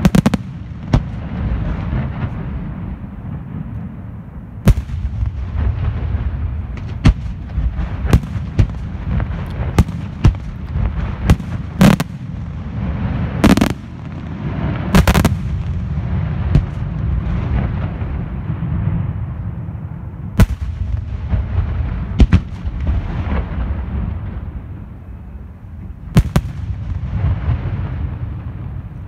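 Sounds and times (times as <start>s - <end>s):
continuous low rumble: 0.0s - 29.0s.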